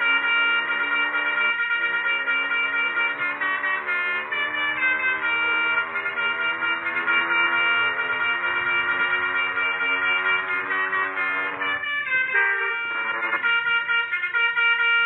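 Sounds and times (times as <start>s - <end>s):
multi-trumpet horn playing a tune: 0.0s - 15.0s.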